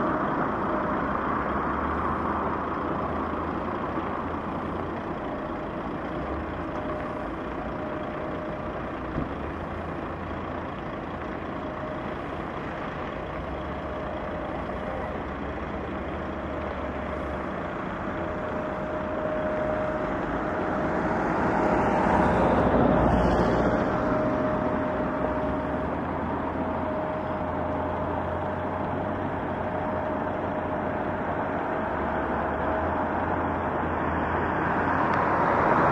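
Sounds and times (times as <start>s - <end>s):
steady whine: 0.0s - 35.9s
truck diesel engine running: 0.0s - 35.9s.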